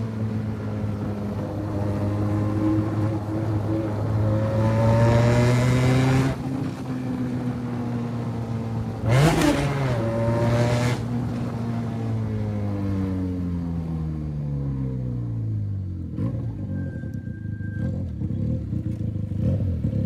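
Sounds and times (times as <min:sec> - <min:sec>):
motorcycle engine revving: 0:00.0 - 0:16.9, 0:17.7 - 0:20.0.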